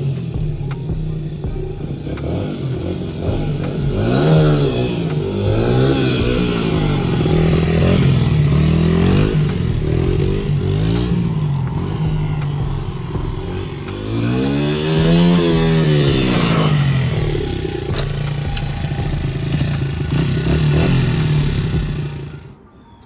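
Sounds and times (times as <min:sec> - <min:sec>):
dirt bike engine revving: 0:00.0 - 0:22.6.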